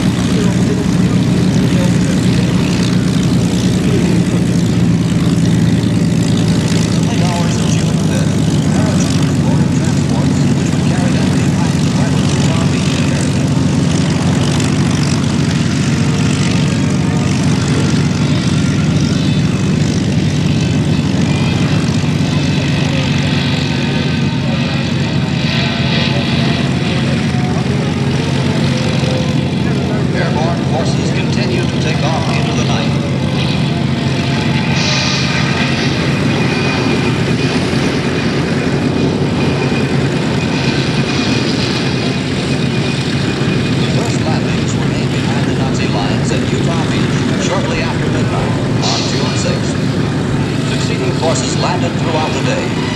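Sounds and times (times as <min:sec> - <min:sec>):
propeller plane flying past: 0:00.0 - 0:52.9.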